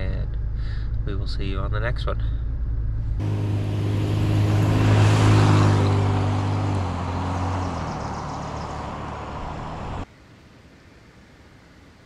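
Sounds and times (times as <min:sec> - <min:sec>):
vehicle engine hum: 0:00.0 - 0:10.1
road noise: 0:00.0 - 0:10.2.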